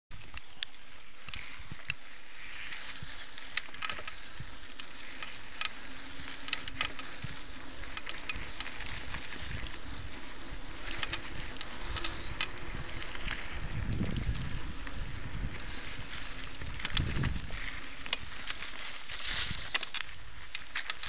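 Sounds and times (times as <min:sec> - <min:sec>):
bike clicks and rattles: 0:00.1 - 0:21.0
bike tyres on dirt trail: 0:00.1 - 0:21.0
wind rumble on microphone: 0:00.2 - 0:21.0.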